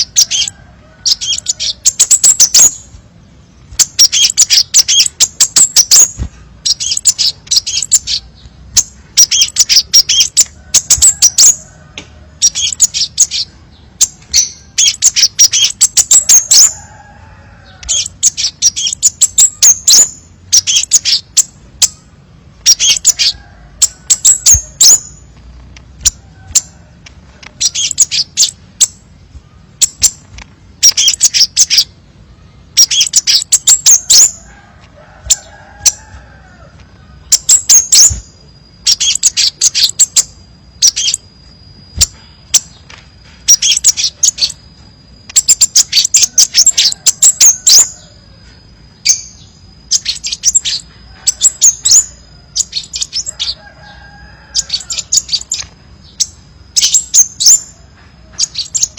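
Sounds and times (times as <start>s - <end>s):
bird chirping and trilling: 0.0s - 58.9s.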